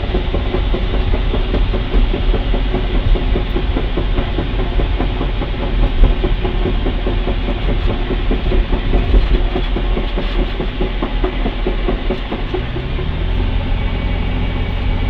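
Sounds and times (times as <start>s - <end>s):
car running noise: 0.0s - 15.0s
drivetrain clunking: 0.0s - 15.0s.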